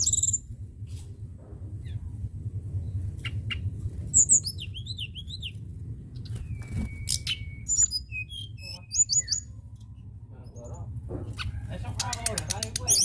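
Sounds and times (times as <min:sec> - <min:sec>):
songbird singing: 0:00.0 - 0:00.5, 0:02.7 - 0:13.0
steady low hum: 0:00.0 - 0:13.0.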